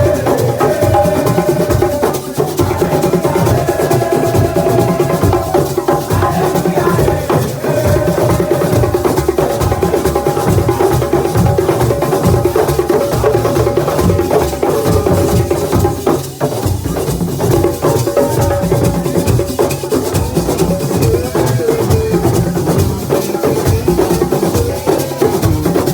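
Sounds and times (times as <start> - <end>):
fast percussion ensemble drumming: 0.0 - 25.9.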